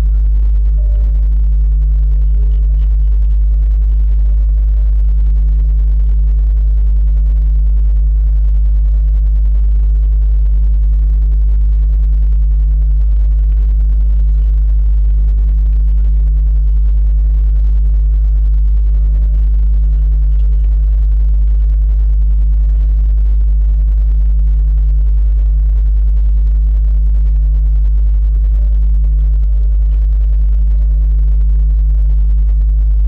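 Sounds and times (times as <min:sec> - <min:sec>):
steady low-pitched hum: 0:00.0 - 0:33.0.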